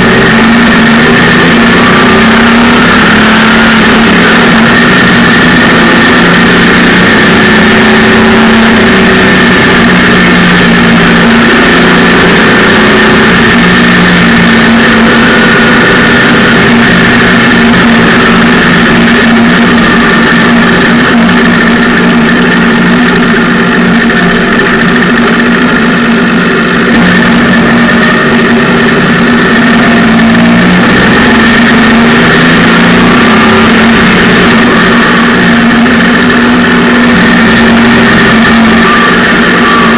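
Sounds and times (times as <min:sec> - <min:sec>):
car engine running loud: 0:00.0 - 0:39.9.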